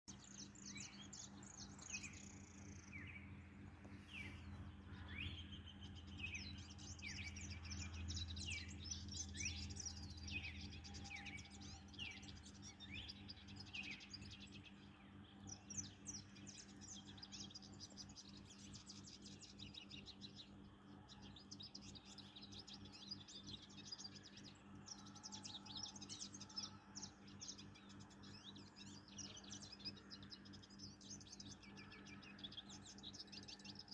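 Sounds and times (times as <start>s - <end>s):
songbird twittering: 0.1s - 33.9s
steady low hum: 0.2s - 33.9s.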